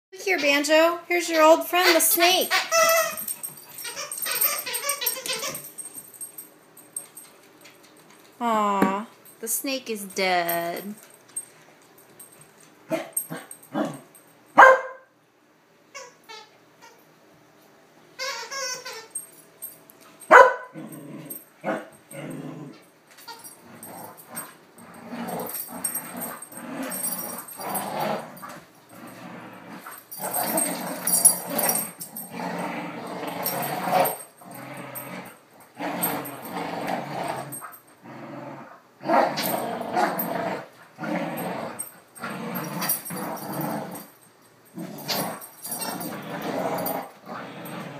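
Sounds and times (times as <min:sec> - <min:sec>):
dogs growling and scuffling: 0:01.4 - 0:09.4, 0:10.5 - 0:14.3, 0:19.1 - 0:47.9.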